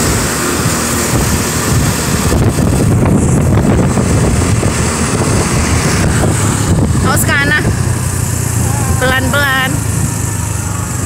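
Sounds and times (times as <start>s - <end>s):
motorbike running: 0.0s - 11.0s
wind rushing over microphone: 0.0s - 11.0s.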